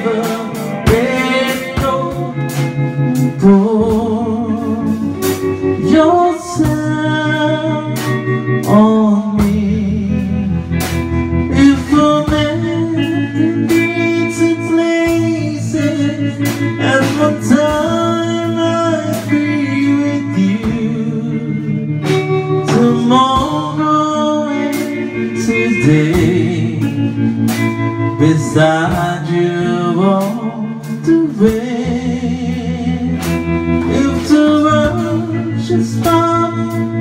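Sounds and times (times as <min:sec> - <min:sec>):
drum kit playing: 0:00.0 - 0:37.0
electric guitar: 0:00.0 - 0:37.0.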